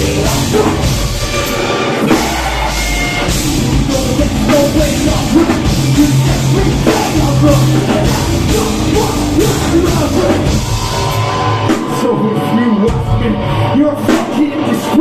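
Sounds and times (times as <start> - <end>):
heavy guitars: 0.0 - 15.0
live metal band playing: 0.0 - 15.0
pounding drum kit: 0.0 - 15.0.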